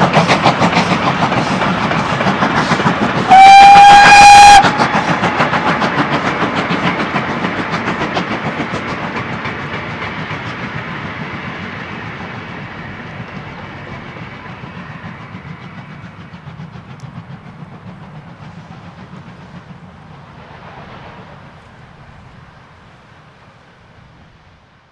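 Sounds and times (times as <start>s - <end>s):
steam train clattering past: 0.0s - 24.9s.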